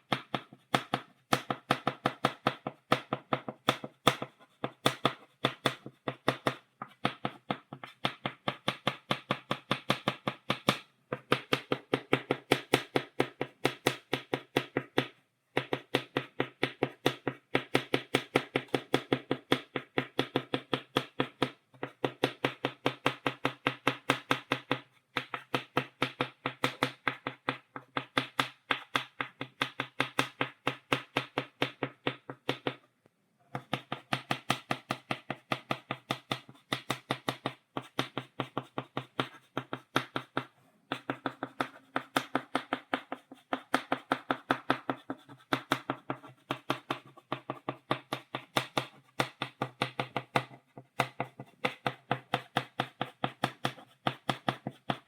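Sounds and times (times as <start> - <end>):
chalk tapping on blackboard: 0.0 - 32.8, 33.5 - 55.0.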